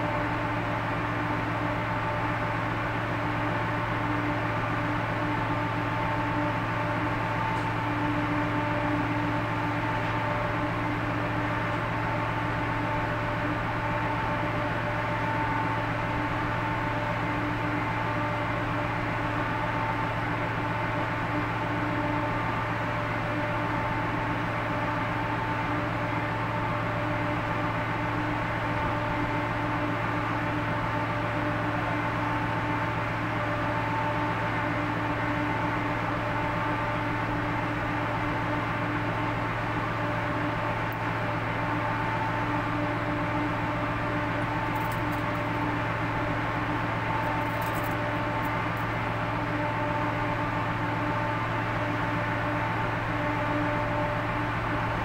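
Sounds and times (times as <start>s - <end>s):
ship engine droning: 0.0s - 55.0s.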